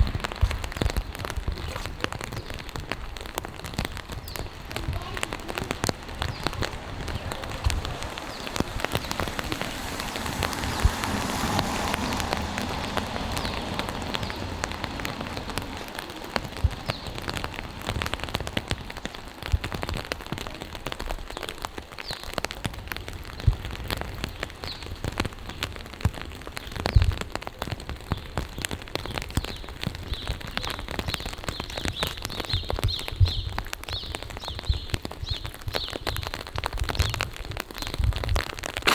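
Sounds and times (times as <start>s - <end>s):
rain drops ticking on surfaces: 0.0s - 38.9s
rushing rain noise: 0.0s - 38.9s.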